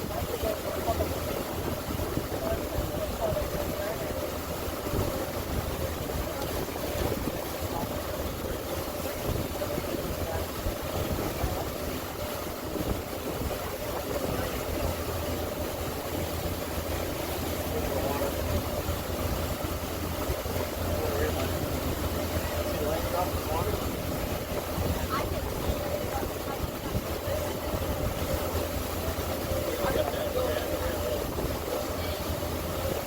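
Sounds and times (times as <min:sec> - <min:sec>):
boat engine running: 0:00.0 - 0:33.0
wind and water noise: 0:00.0 - 0:33.0.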